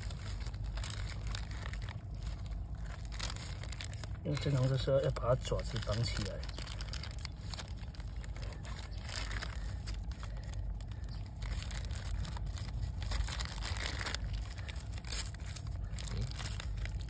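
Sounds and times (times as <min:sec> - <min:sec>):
plastic bag crinkling: 0:00.0 - 0:17.0
steady low rumble: 0:00.0 - 0:17.0.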